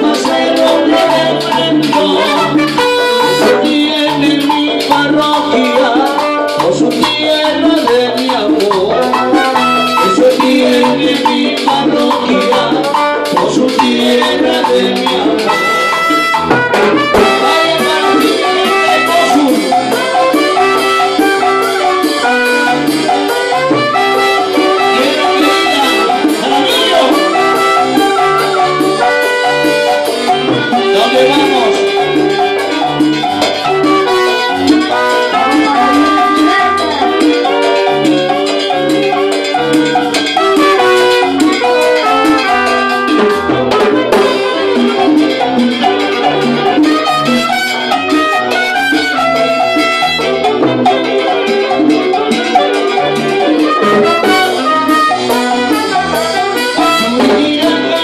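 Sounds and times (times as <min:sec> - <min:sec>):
keyboard: 0:00.0 - 0:58.0
repeating bass line: 0:00.0 - 0:58.0
saxophones playing melody: 0:00.0 - 0:58.0.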